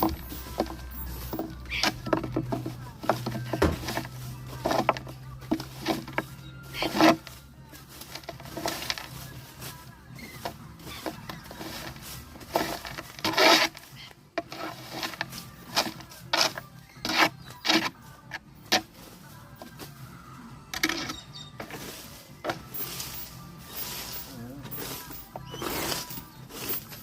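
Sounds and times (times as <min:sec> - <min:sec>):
leaves being swept: 0:00.0 - 0:18.0, 0:21.6 - 0:27.0.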